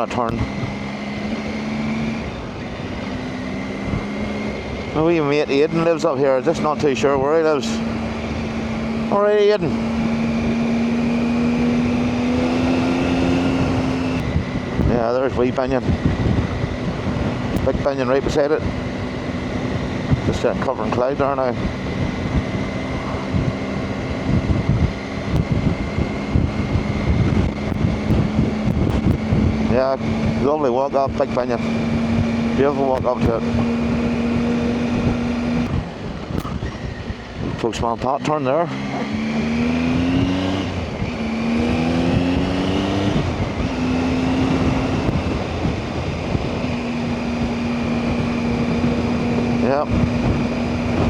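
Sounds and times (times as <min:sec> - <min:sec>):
motorcycle engine cruising: 0:00.0 - 0:51.0
wind buffeting microphone: 0:00.0 - 0:51.0.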